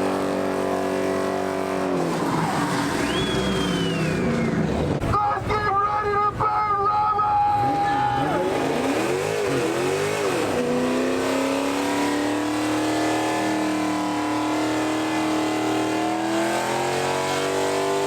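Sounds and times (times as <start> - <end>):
car engine revving: 0.0 - 5.1, 7.6 - 18.0.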